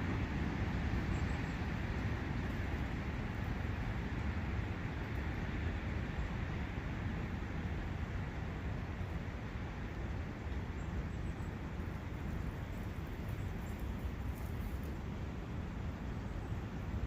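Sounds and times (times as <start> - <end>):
forest brook: 0.0 - 17.0.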